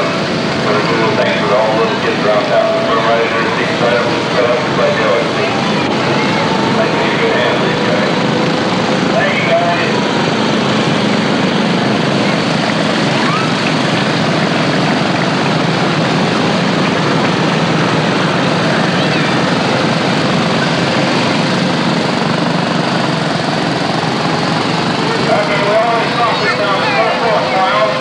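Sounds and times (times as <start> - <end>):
miniature car engines droning: 0.0 - 28.0.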